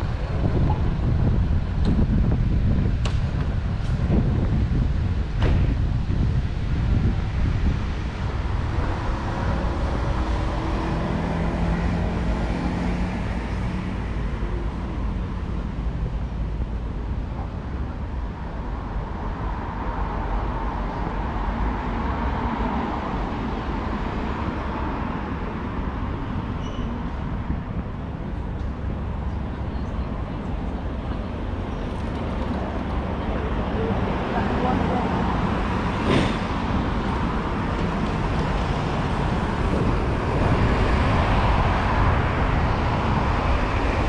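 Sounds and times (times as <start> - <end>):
low engine hum: 0.0 - 44.0
vehicles passing: 0.0 - 44.0.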